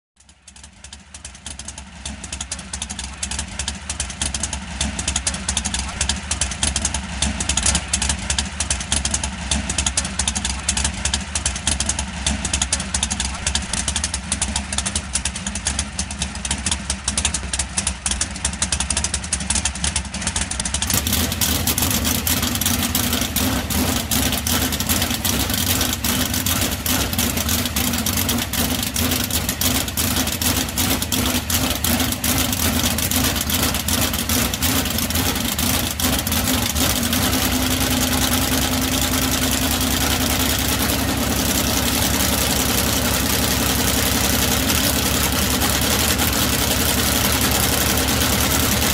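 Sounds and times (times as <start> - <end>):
race car engine idling: 0.2 - 48.9.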